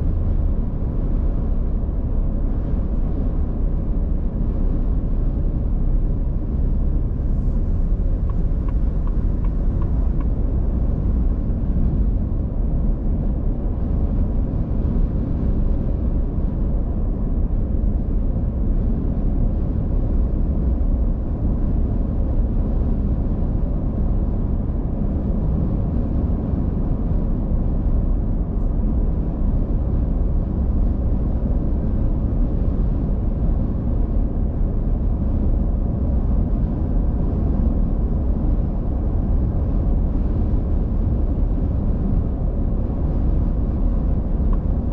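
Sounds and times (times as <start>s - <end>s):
car driving rumble: 0.0s - 44.9s.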